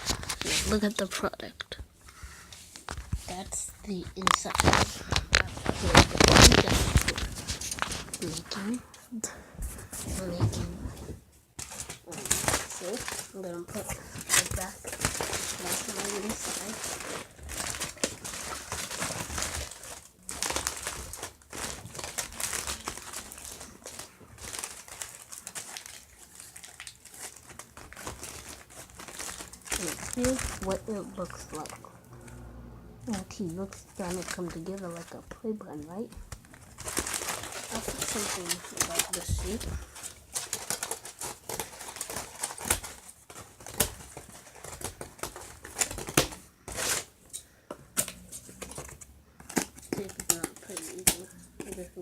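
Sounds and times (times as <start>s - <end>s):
crinkly material crumpling: 0.0s - 32.4s, 33.0s - 52.0s.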